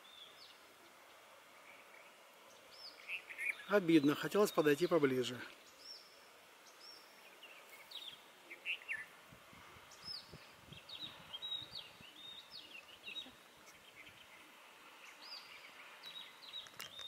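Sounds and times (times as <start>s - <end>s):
birds chirping: 0.0s - 17.0s
faint steady hiss: 0.0s - 17.0s.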